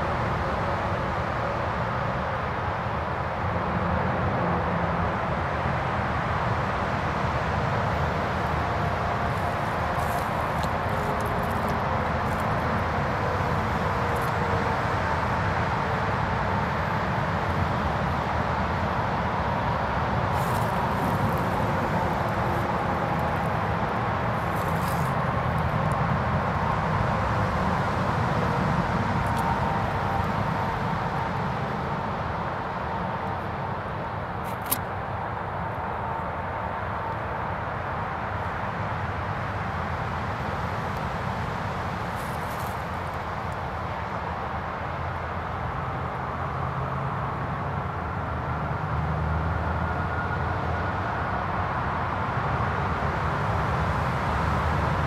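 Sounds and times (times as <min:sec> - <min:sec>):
low outdoor rumble: 0:03.6 - 0:48.3.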